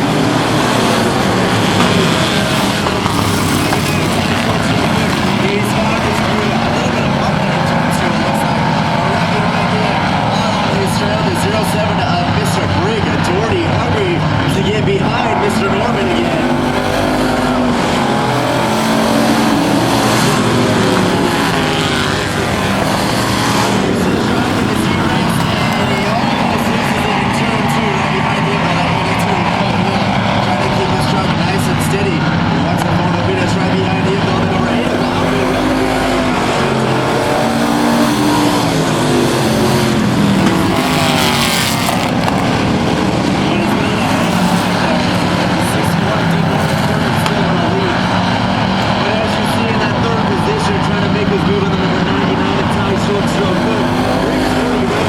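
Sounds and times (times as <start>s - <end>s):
race truck engines at speed: 0.0s - 55.0s.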